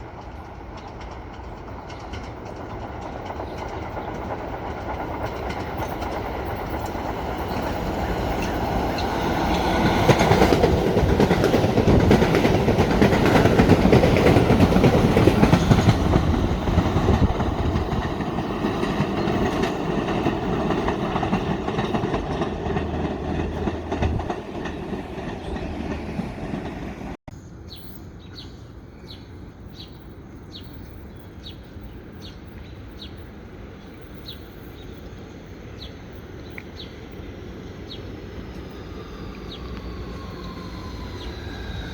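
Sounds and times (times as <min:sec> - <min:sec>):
electric train passing: 0:00.0 - 0:27.2, 0:31.5 - 0:41.9.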